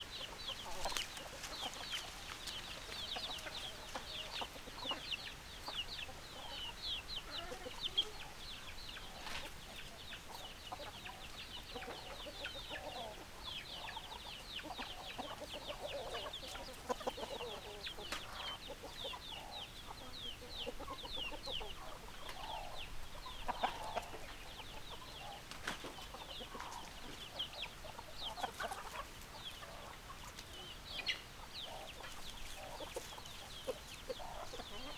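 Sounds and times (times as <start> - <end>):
chicks peeping: 0.0 - 34.9
hens clucking: 0.0 - 34.9.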